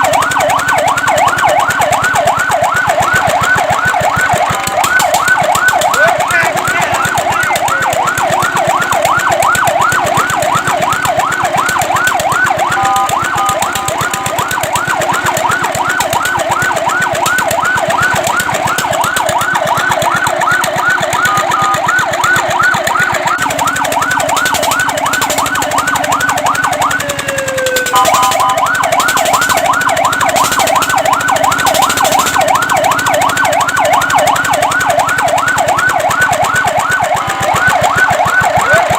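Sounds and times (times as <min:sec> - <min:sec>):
fire truck siren yelping: 0:00.0 - 0:38.9.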